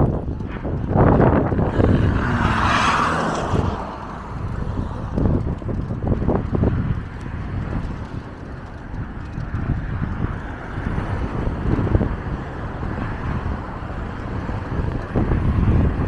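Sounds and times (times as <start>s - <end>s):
city street traffic: 0.0s - 16.0s
wind gusting against microphone: 0.0s - 16.0s.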